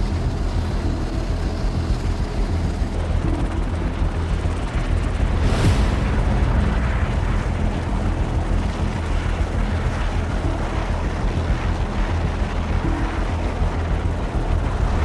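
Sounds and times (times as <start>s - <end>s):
helicopter overhead: 0.0s - 15.0s.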